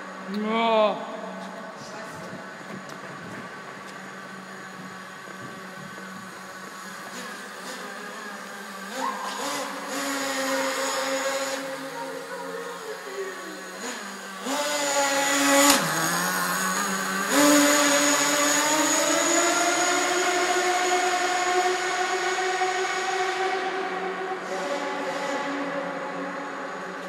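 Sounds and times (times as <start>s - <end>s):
rc car engine revving: 2.5s - 27.0s.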